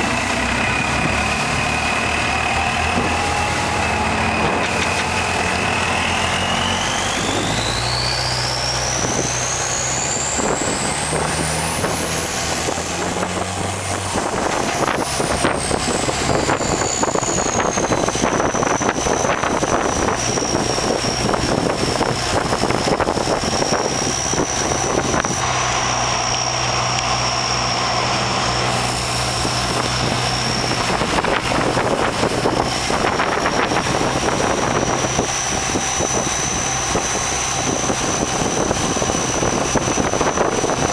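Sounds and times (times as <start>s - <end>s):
high whine: 0.0s - 40.9s
motorboat engine running: 0.0s - 40.9s.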